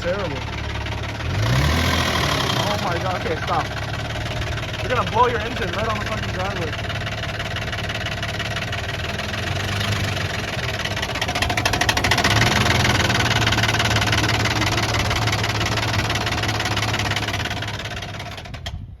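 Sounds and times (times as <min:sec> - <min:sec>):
car engine revving with knocking: 0:00.0 - 0:18.8.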